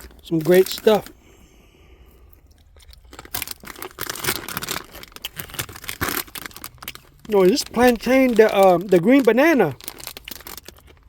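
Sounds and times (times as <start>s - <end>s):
chip bag crinkling and crunching: 0.0s - 1.2s, 2.4s - 11.0s.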